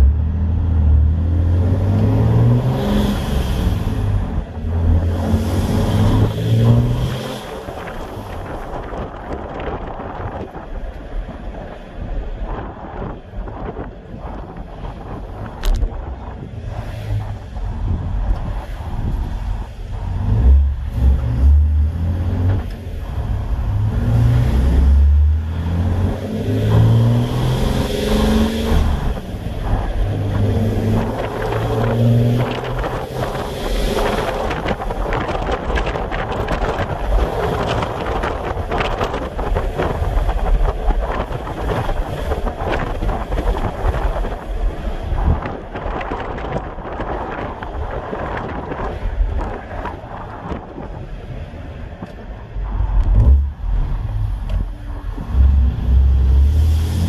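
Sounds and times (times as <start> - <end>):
diesel engine pulling through gears: 0.0 - 57.0
road noise: 0.0 - 57.0.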